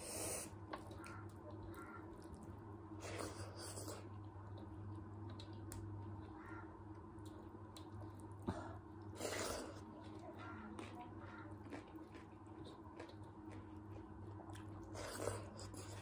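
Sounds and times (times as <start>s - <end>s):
chewing and mouth noises: 0.3s - 16.0s.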